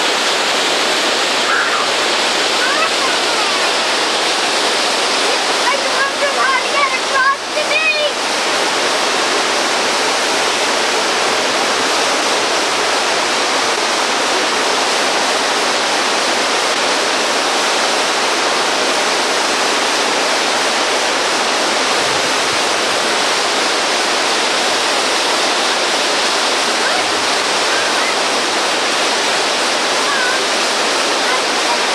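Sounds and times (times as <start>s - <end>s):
river rapids rushing over rocks: 0.0s - 31.9s.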